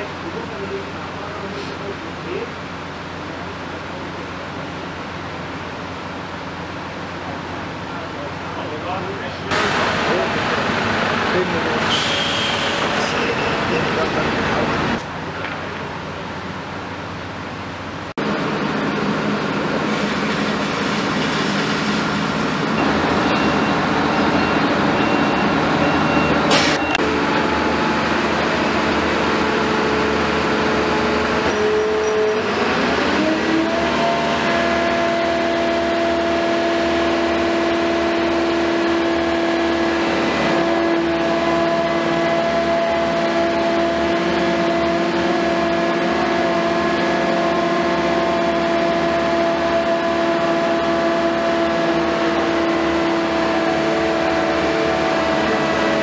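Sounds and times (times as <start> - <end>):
diesel machine engine revving: 0.0 - 56.0.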